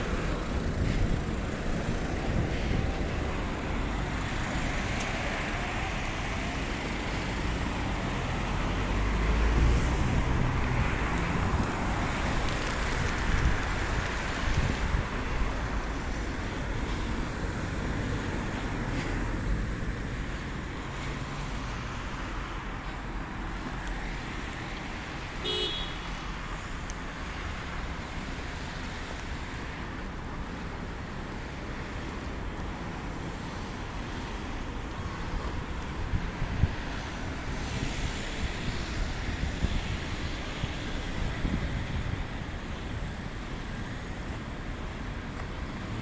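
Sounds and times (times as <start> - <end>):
passing cars rumble: 0.0 - 25.4, 26.1 - 46.0.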